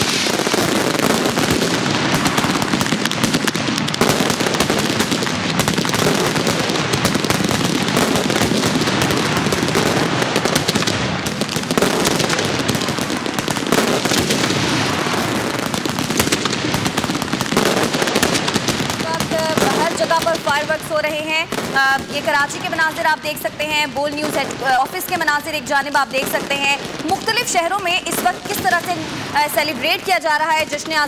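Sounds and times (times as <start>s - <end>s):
fireworks popping and banging: 0.0s - 31.0s.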